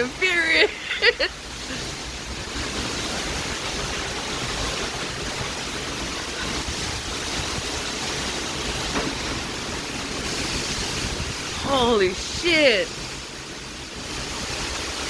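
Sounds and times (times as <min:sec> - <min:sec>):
heavy rain on a car: 0:00.0 - 0:15.0
wind: 0:00.0 - 0:15.0.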